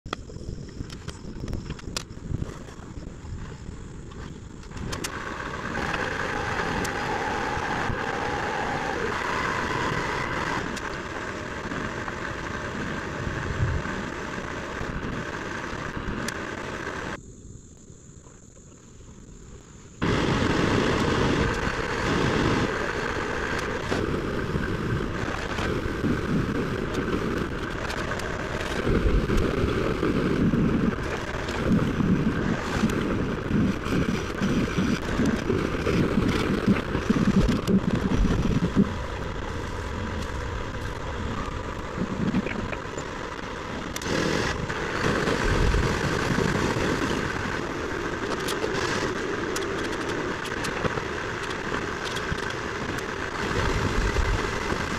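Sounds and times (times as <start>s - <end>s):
wind noise on microphone: 0.0s - 54.9s.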